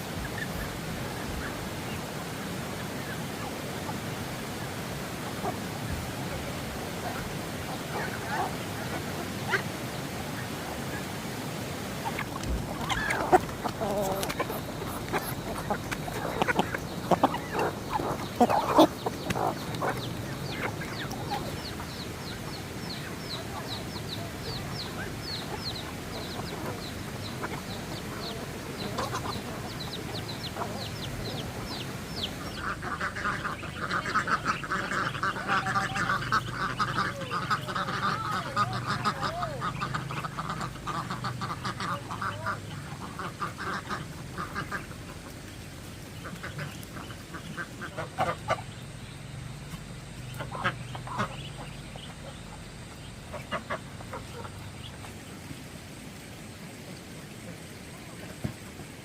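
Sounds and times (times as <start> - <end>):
ducks quacking: 0.0 - 58.6.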